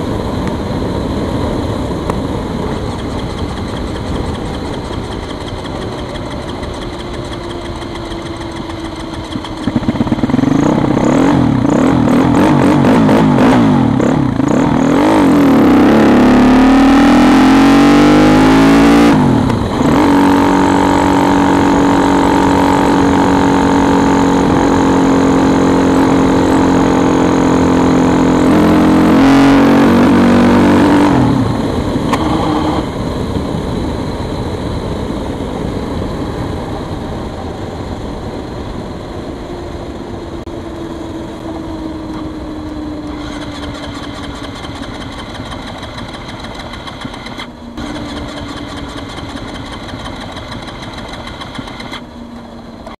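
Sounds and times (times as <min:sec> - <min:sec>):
falling whine: 0:00.0 - 0:53.0
motorcycle engine revving: 0:00.0 - 0:53.0
wind: 0:00.0 - 0:53.0.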